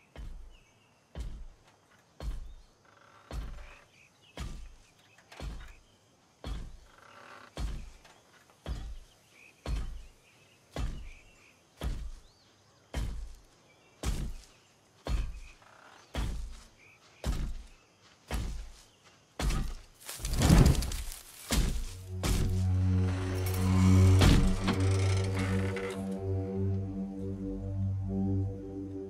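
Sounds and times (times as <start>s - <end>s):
heavy robot footsteps: 0.0s - 2.7s, 3.3s - 6.9s, 7.6s - 8.0s, 8.6s - 10.2s, 10.8s - 26.0s.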